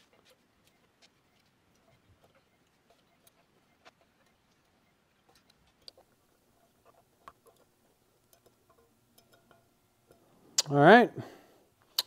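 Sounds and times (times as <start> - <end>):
faint clicks of metal handling: 0.0 - 10.7.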